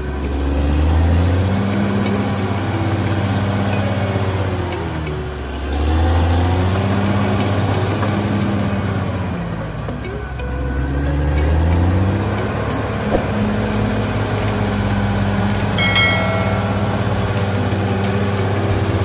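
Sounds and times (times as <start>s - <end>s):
music: 0.0s - 19.0s
dump truck diesel engine running: 1.0s - 19.0s.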